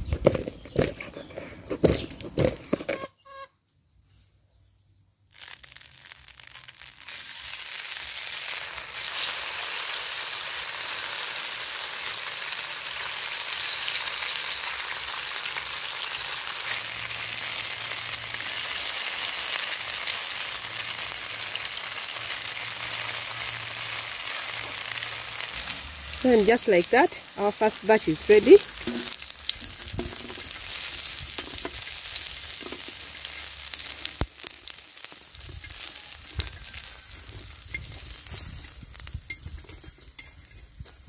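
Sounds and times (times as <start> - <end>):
tofu sizzling in hot oil: 5.3 - 39.5.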